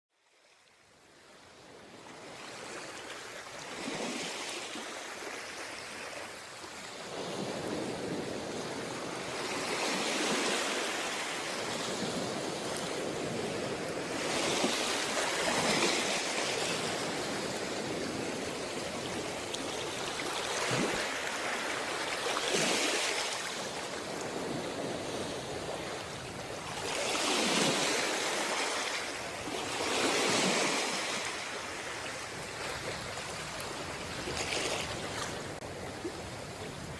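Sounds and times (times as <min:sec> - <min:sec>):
sea waves washing in: 0:02.5 - 0:36.9.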